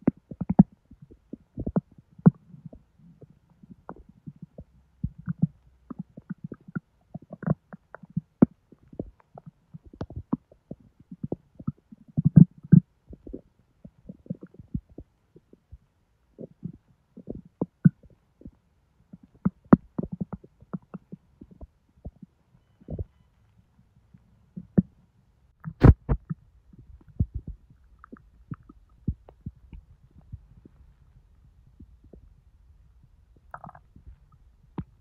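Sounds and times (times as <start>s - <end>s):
stomach gurgles and pops: 0.0s - 23.2s, 24.0s - 35.0s.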